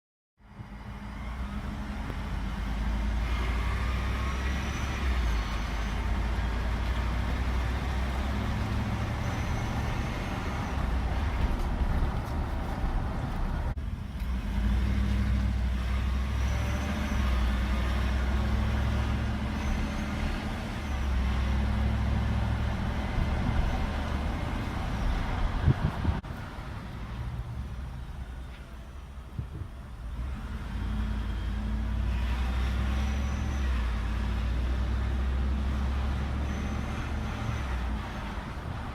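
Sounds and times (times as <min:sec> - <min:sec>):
large vehicle engine humming: 0:00.4 - 0:38.9.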